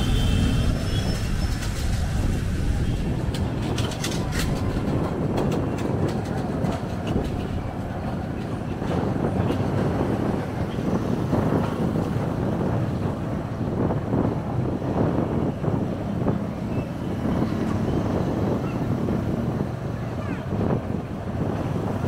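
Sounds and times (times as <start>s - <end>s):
vehicle rumble and road noise: 0.0s - 22.0s.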